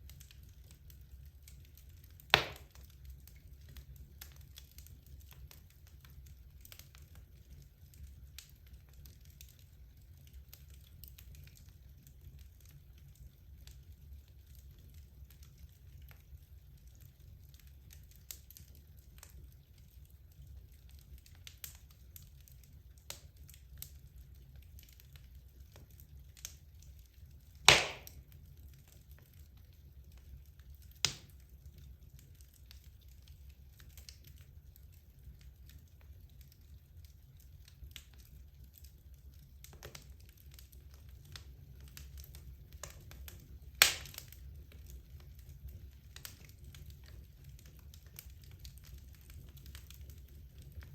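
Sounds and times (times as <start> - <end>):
loud pops from burning logs: 0.0 - 12.8, 20.8 - 36.6, 37.2 - 50.9
wood fire crackling: 0.0 - 50.9.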